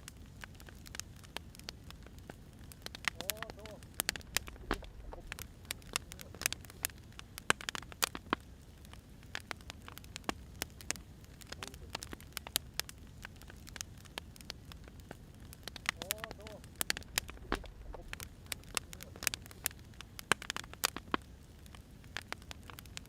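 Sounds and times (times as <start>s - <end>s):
fire low steady rush: 0.0s - 23.0s
firewood crackling and popping: 0.0s - 23.0s.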